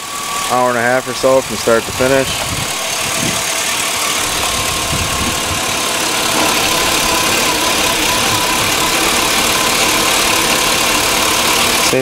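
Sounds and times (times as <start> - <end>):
car engine idling: 0.0 - 12.0
thin steady whine: 0.0 - 12.0.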